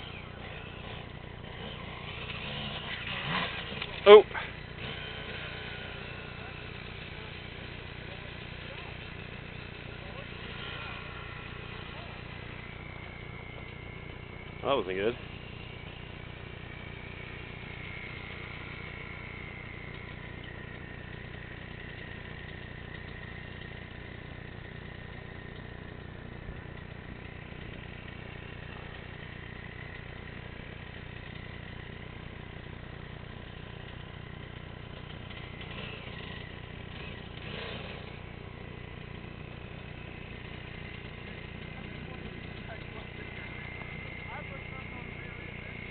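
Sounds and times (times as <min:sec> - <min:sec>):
dirt bike engine idling: 0:00.0 - 0:45.9.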